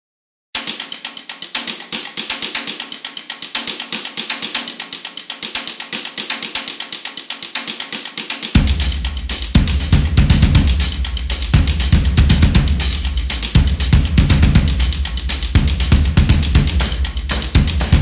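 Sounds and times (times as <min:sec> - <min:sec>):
fast percussive tick pattern: 0:00.6 - 0:18.0.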